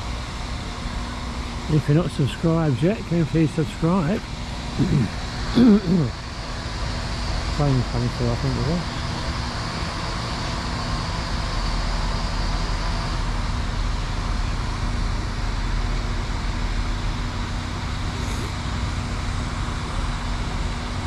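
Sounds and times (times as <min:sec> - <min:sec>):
diesel train engine humming: 0:00.0 - 0:21.0.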